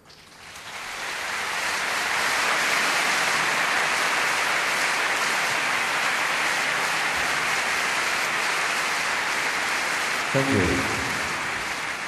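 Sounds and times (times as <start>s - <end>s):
crowd applauding: 0.3s - 12.0s.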